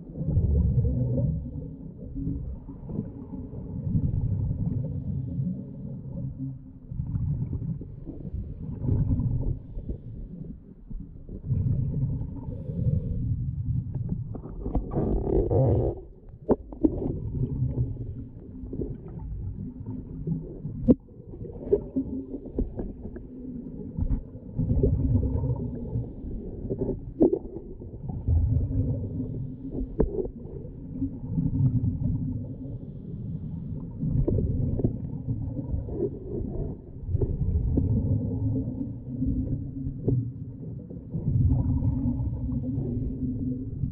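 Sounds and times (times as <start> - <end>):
underwater exhaled bubbles: 0.0 - 43.9.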